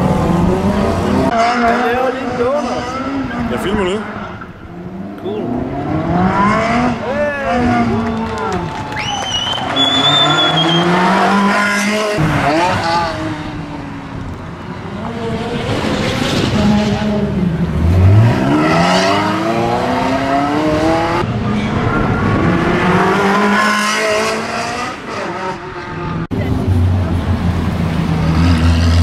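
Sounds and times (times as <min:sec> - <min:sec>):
car engine revving hard: 0:00.0 - 0:08.2, 0:09.9 - 0:13.6, 0:15.0 - 0:26.3.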